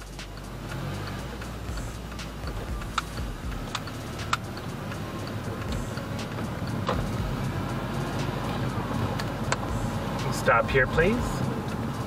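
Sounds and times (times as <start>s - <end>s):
car rumble from inside cabin: 0.0s - 12.0s
sharp ticks: 0.0s - 12.0s.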